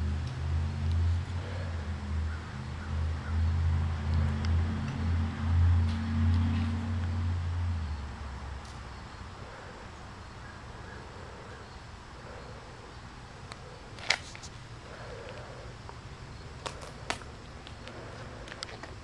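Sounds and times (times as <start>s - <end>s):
outdoor background hum: 0.0s - 19.0s.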